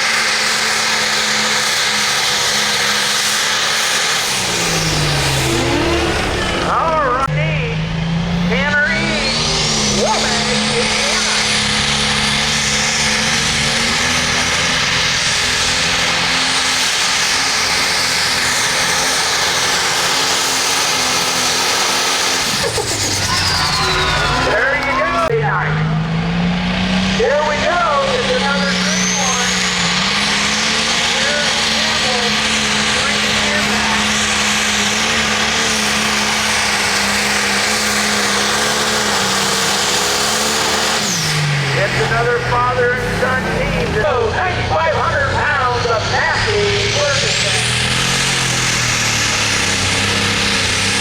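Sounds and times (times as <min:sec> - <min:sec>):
engine droning under load: 0:00.0 - 0:51.0.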